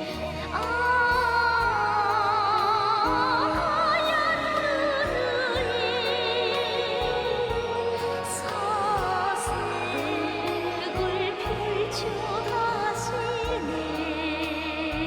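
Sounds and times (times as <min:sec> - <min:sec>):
backing band with bass line: 0:00.0 - 0:15.0
high voice singing with vibrato: 0:00.0 - 0:15.0.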